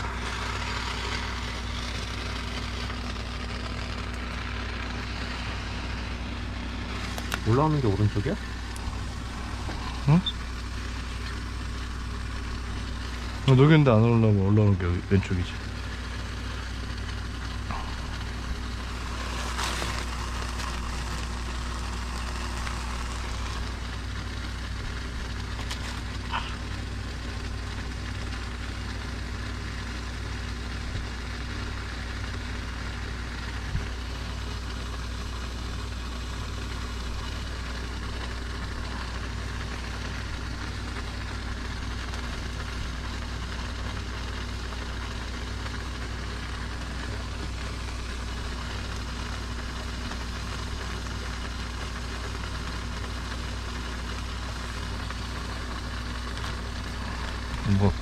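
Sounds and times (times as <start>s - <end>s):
machine humming: 0.0s - 58.0s.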